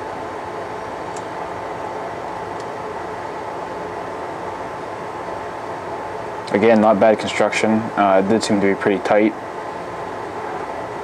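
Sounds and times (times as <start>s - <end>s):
low background hum and hiss: 0.0s - 11.0s.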